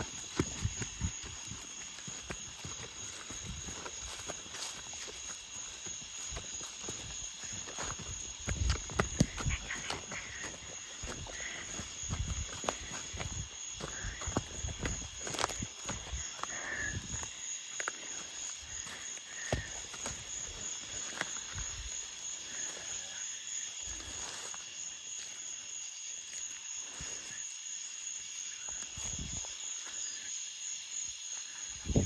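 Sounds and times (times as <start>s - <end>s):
rustles: 0.0s - 30.3s
high-pitched insect chorus: 0.0s - 32.0s.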